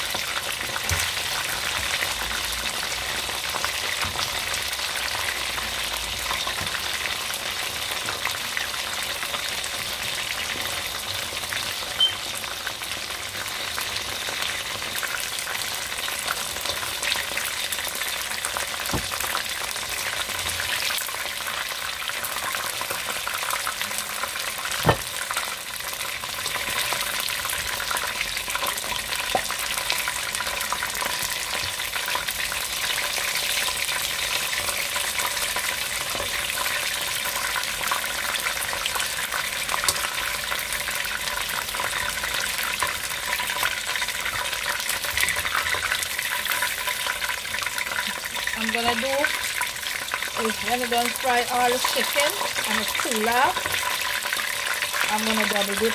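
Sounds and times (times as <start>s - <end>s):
chicken deep-frying in oil: 0.0s - 55.9s.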